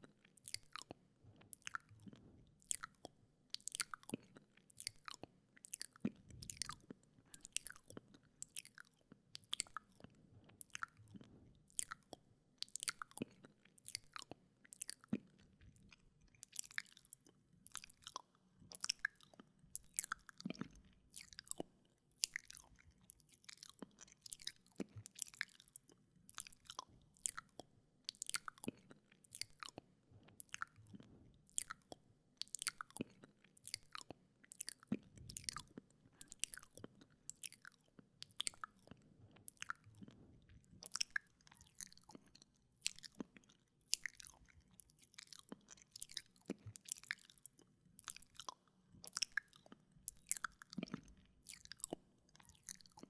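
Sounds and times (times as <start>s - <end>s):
wet mouth clicks and smacks: 0.4s - 53.0s.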